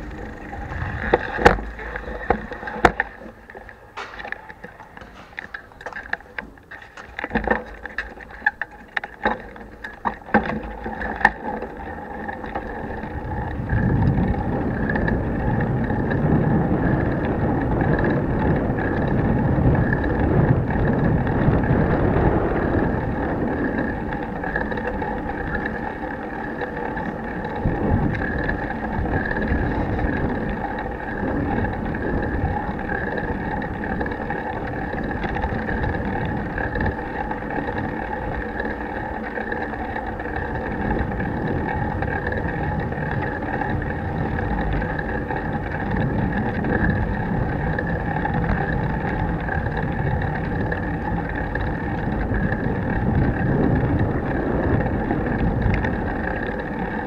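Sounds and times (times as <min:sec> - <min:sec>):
road vibration and tyre rumble: 0:00.0 - 0:57.0
wind buffeting microphone: 0:00.0 - 0:57.0.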